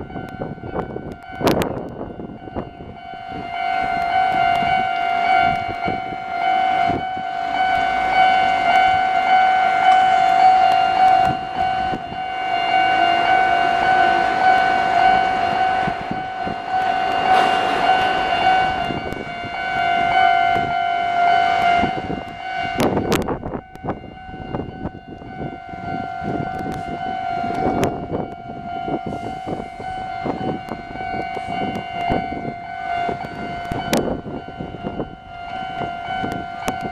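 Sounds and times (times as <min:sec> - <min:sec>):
train rumbling past: 0:00.0 - 0:36.9.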